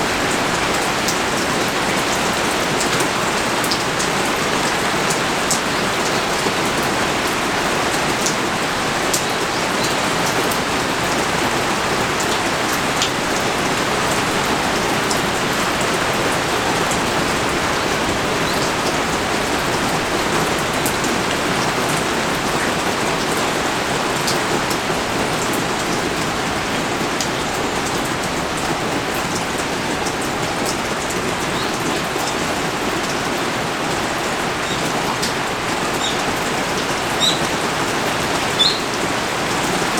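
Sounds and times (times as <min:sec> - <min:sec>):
heavy rain pouring: 0:00.0 - 0:39.9
raindrops ticking: 0:00.1 - 0:39.9.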